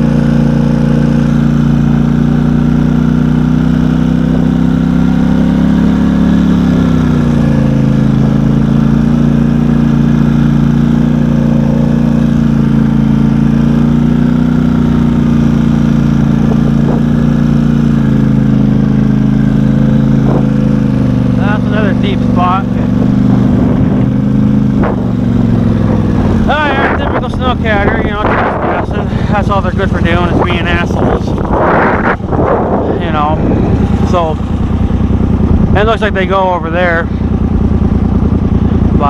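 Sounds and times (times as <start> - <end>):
off-road vehicle engine running: 0.0 - 39.0.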